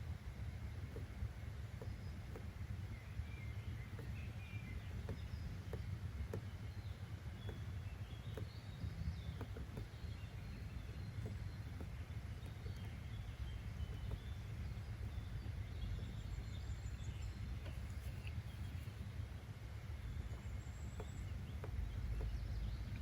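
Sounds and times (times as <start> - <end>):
faint bird chirps: 1.8 - 23.0
soft clicks: 3.7 - 23.0.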